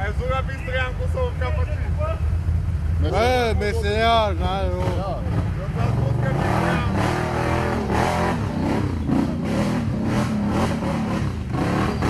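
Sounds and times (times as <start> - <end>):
quad bike engines revving: 0.0 - 12.0.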